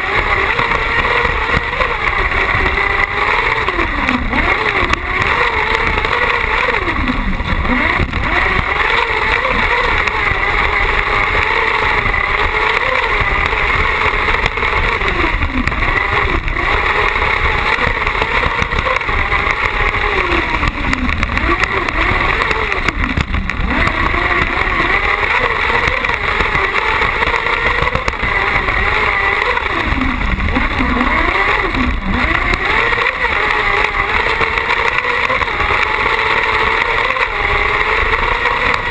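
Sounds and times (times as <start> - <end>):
buggy engine revving: 0.0 - 38.9
steady rushing noise: 0.0 - 38.9.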